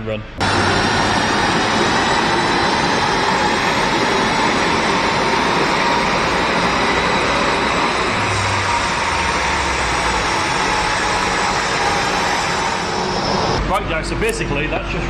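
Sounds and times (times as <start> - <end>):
tyres spinning on rollers: 0.4 - 13.6
diesel engine pulling hard: 0.4 - 15.0.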